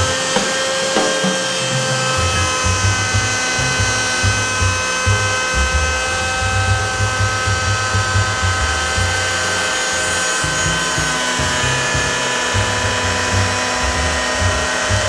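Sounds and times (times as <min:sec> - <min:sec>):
cnc router whine: 0:00.0 - 0:15.0
pulsing low rumble: 0:01.6 - 0:15.0.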